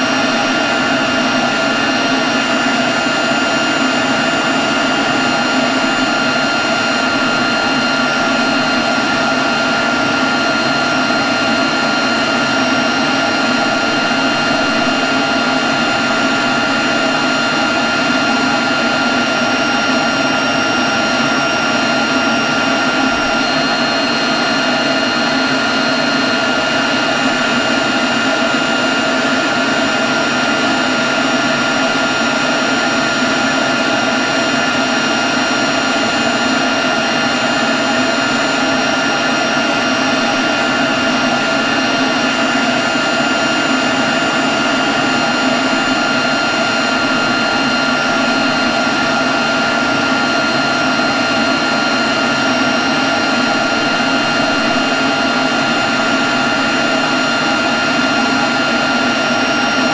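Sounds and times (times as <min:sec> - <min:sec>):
leaf blower running: 0:00.0 - 0:59.9.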